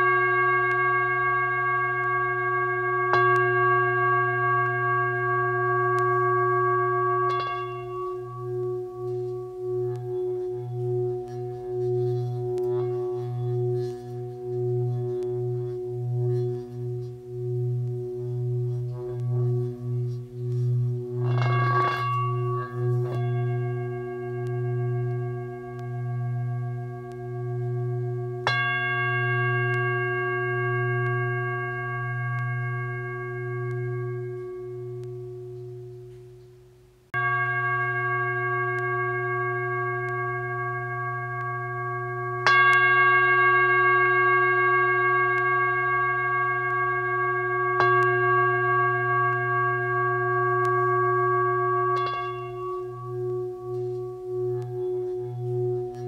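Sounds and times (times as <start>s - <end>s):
shimmering rattle: 0.0s - 36.2s, 37.1s - 56.0s
singing bowls struck: 0.0s - 36.5s, 37.1s - 56.0s
singing bowls ringing: 0.0s - 56.0s.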